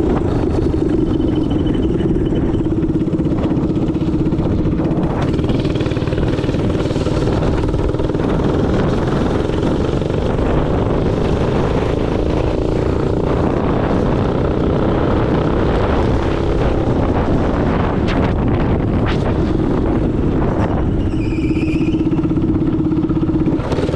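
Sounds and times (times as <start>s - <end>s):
minibike engine running: 0.0s - 23.9s.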